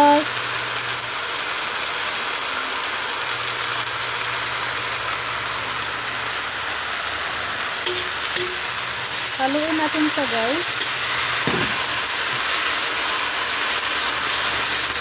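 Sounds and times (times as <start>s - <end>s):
leaves sizzling in hot oil: 0.0s - 15.0s.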